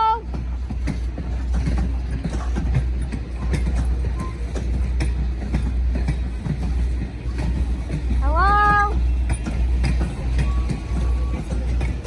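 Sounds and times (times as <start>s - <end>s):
train low rumble: 0.0s - 12.0s
train wheels clicking on rails: 0.0s - 12.0s.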